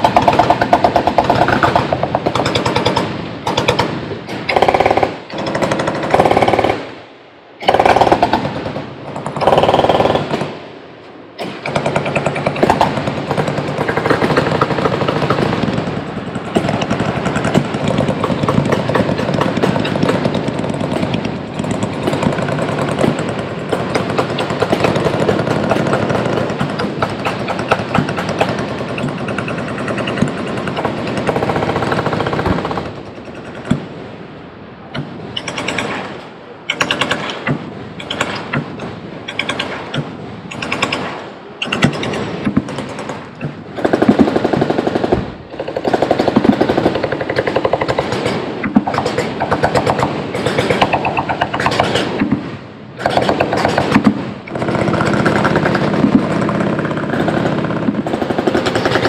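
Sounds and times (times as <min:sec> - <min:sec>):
machine guns firing: 0:00.0 - 0:07.0, 0:07.6 - 0:10.6, 0:11.4 - 0:33.9, 0:35.4 - 0:39.9, 0:40.5 - 0:59.0.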